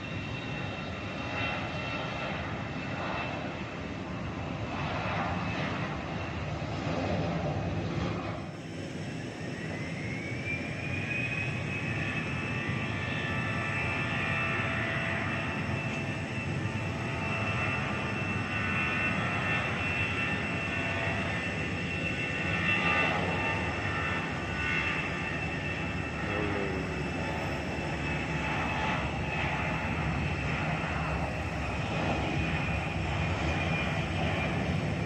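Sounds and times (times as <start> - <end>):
airplane engine rumble: 0.0 - 35.0.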